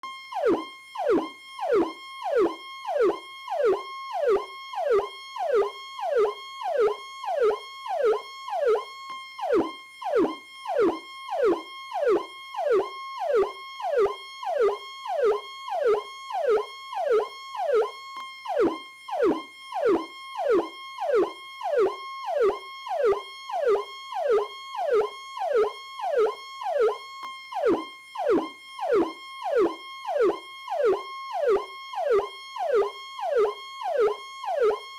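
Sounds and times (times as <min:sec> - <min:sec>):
police siren sweeping: 0:00.2 - 0:34.9.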